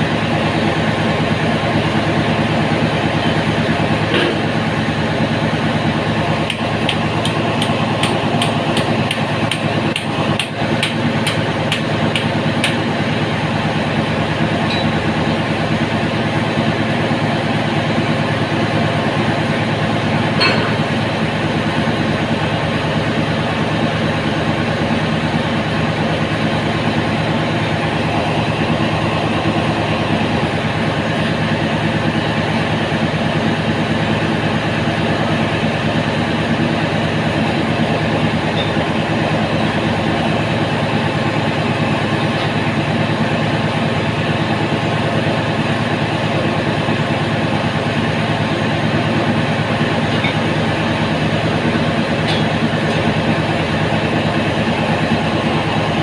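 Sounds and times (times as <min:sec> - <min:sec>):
engine-room machinery drone: 0:00.0 - 0:56.0.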